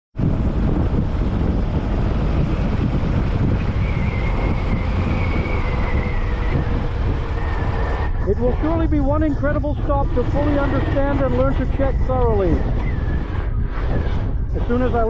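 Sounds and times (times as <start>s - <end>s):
motorcycle engine drone: 0.2s - 15.0s
wind buffeting microphone: 0.2s - 15.0s.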